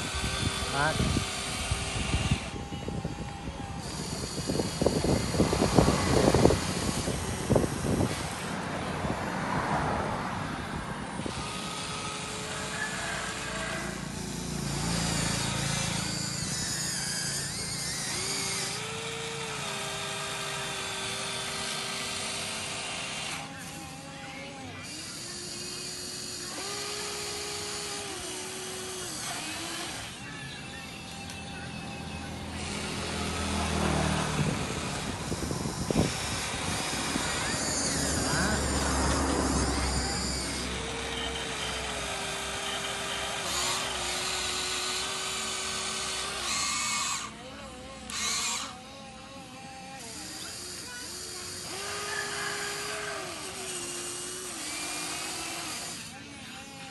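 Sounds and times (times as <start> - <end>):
electric motors whining: 0.0 - 56.9.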